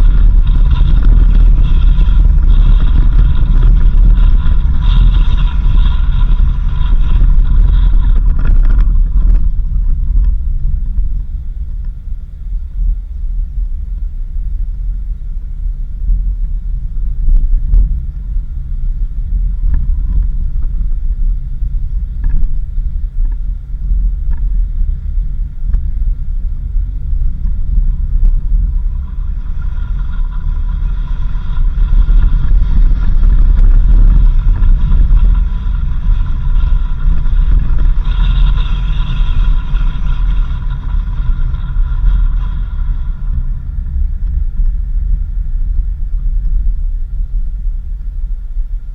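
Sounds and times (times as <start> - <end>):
steady high whine: 0.0 - 48.9
vehicle rumbling on dirt road: 0.0 - 48.9.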